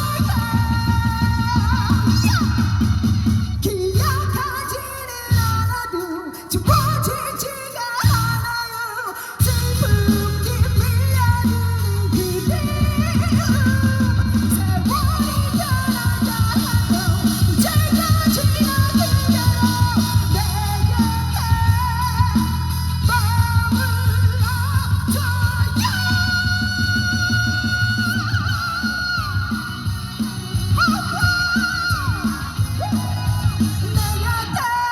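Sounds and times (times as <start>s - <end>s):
live pop band music: 0.0s - 34.9s.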